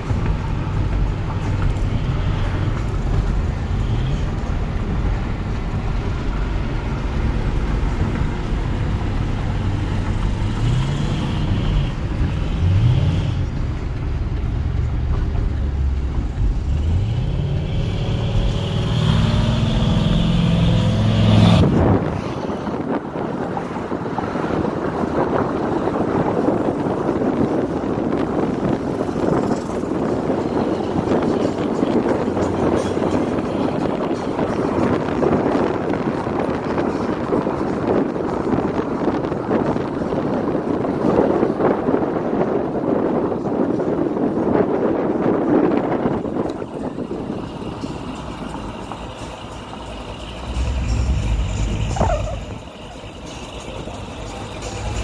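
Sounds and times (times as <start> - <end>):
pickup trucks accelerating: 0.0 - 55.0
wind and road noise: 0.0 - 55.0.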